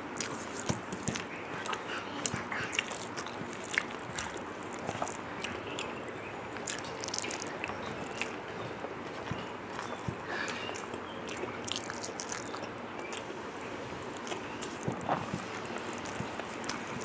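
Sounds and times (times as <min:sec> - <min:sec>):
wet chewing and lip smacking: 0:00.0 - 0:17.0.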